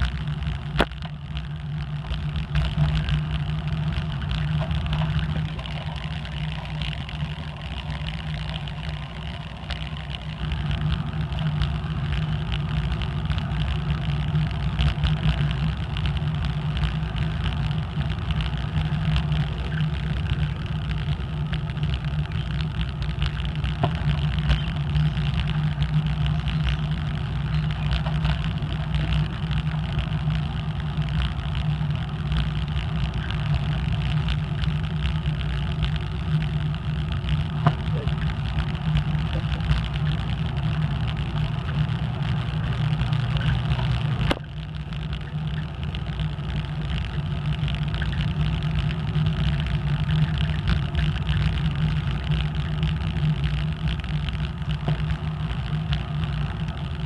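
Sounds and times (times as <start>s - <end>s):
tyre noise on asphalt: 0.0s - 57.0s
wind rumble on microphone: 0.0s - 57.0s.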